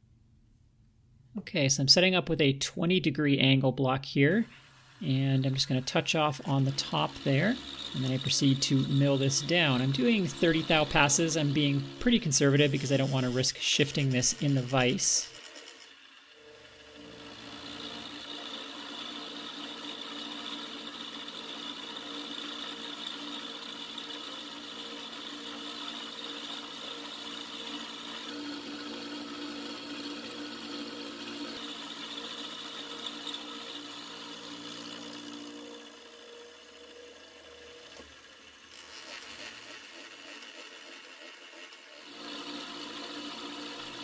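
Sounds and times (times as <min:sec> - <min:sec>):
metal cutting noise: 0:03.4 - 0:44.0
milling machine spindle whine: 0:04.3 - 0:44.0.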